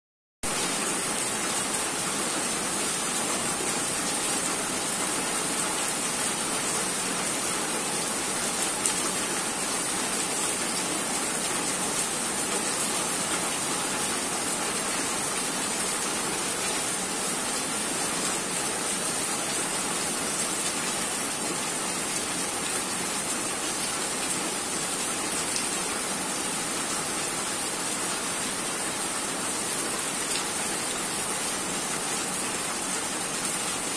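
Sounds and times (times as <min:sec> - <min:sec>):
heavy rain falling: 0:00.4 - 0:33.9.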